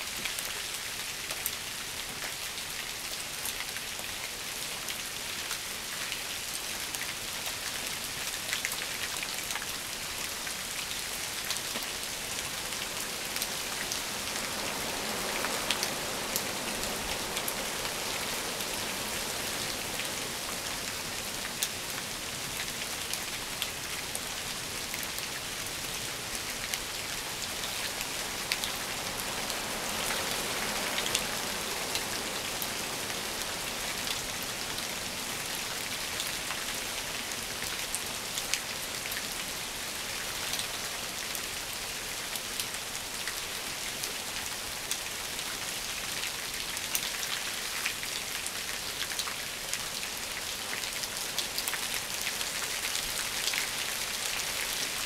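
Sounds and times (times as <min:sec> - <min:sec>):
rain hissing on bushes: 0:00.0 - 0:55.0.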